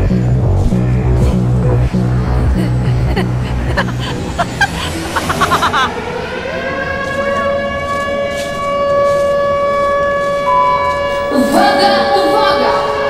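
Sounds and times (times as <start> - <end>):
air-raid siren wailing: 0.0 - 13.0.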